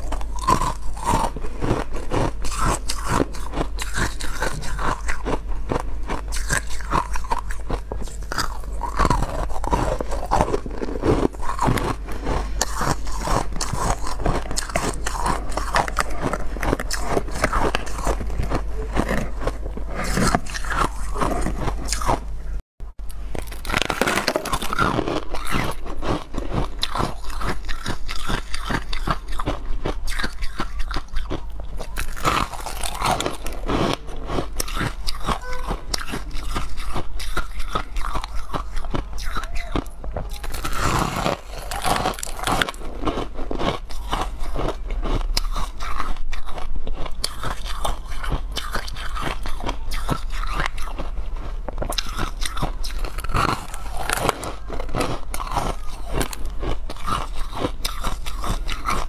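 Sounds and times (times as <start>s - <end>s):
chewing ice crunching: 0.0s - 22.3s, 23.1s - 59.0s.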